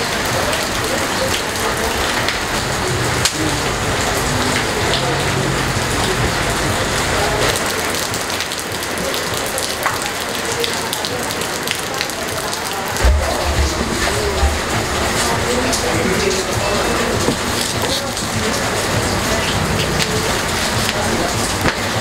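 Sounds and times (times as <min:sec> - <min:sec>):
rain on concrete ground: 0:00.0 - 0:22.0
rain splashing into bucket: 0:00.0 - 0:22.0.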